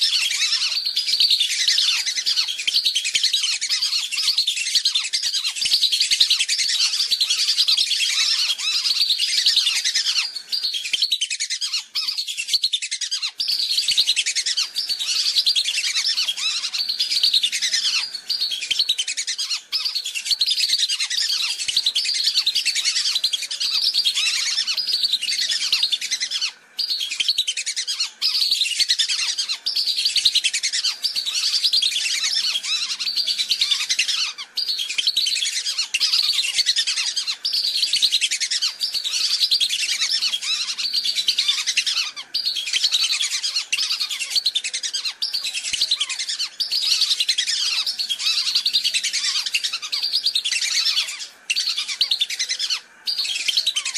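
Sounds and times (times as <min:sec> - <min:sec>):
whistling ducks calling: 0:00.0 - 0:53.9.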